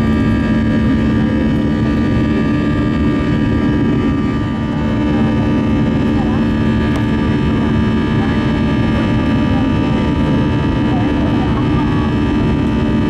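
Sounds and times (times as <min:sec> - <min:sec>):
fan tone whine: 0:00.0 - 0:13.0
jet engines roaring: 0:00.0 - 0:13.0.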